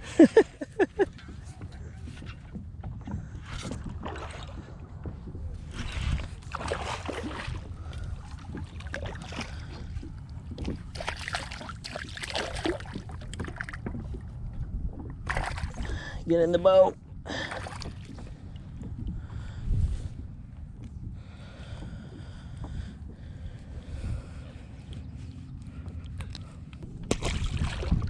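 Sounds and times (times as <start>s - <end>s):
water splashing around kayak: 0.0s - 16.2s, 17.3s - 20.5s, 21.4s - 28.0s
wind rumble on microphone: 0.0s - 28.0s.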